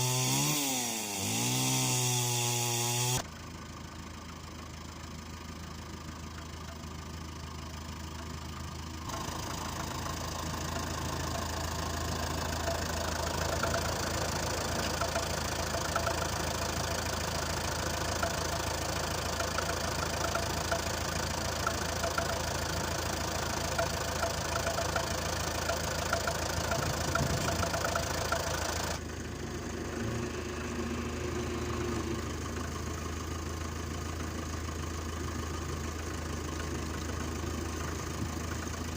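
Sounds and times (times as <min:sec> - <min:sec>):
diesel tractor engine clattering: 0:00.0 - 0:29.9, 0:31.1 - 0:38.9.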